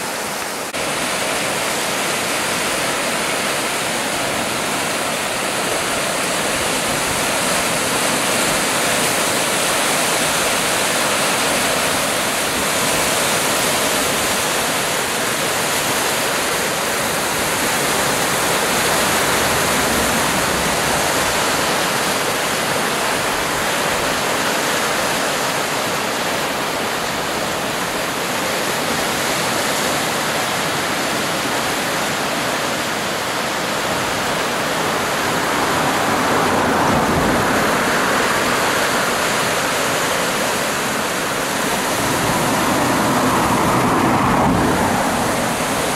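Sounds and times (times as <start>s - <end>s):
river rushing and churning: 0.0s - 45.9s.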